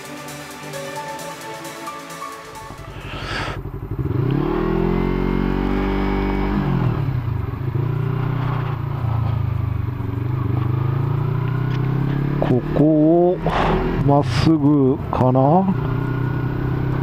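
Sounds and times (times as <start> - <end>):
motorcycle engine revving: 2.5 - 17.0.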